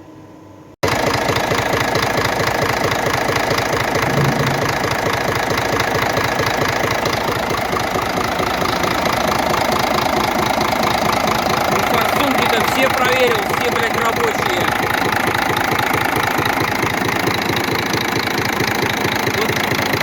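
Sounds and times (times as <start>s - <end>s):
diesel engine idling: 0.9s - 20.0s
rapid knocking clatter: 0.9s - 20.0s.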